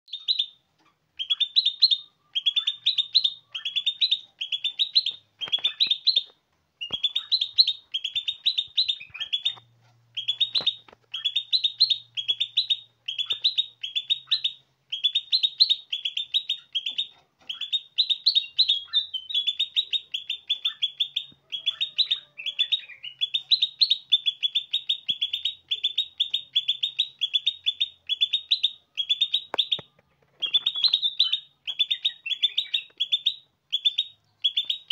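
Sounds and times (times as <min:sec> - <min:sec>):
songbird chattering: 0:00.1 - 0:34.9.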